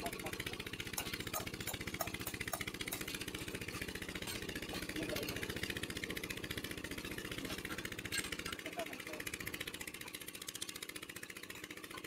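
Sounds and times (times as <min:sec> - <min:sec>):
engine running at fast beat: 0:00.0 - 0:12.0.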